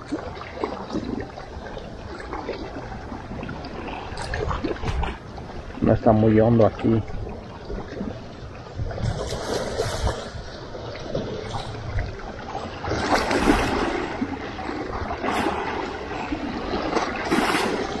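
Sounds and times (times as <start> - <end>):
waves lapping against rocks: 0.0 - 18.0.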